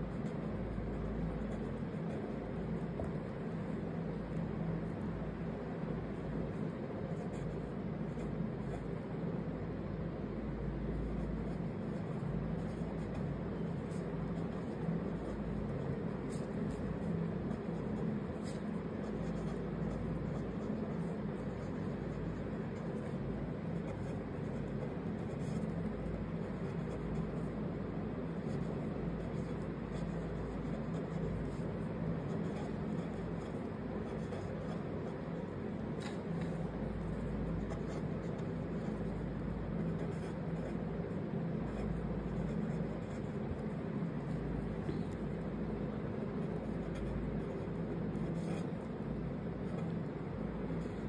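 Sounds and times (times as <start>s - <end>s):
felt-tip pen scratching on paper: 0.0s - 5.0s, 6.0s - 9.5s, 10.8s - 51.0s
steady low hum: 0.0s - 51.0s.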